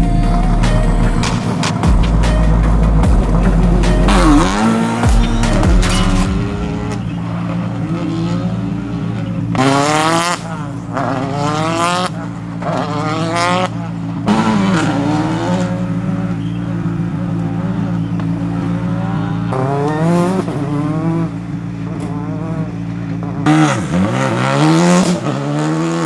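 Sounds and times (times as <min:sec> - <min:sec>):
car engine revving hard: 0:00.0 - 0:26.0.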